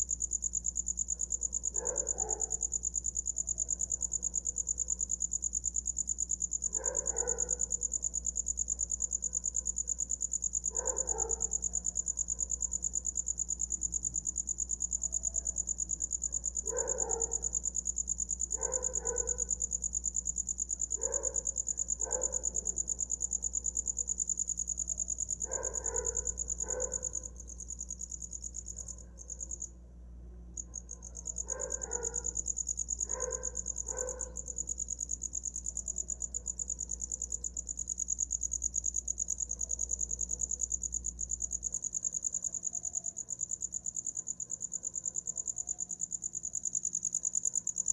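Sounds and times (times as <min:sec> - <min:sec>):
cricket trilling: 0:00.0 - 0:29.8, 0:30.5 - 0:47.9.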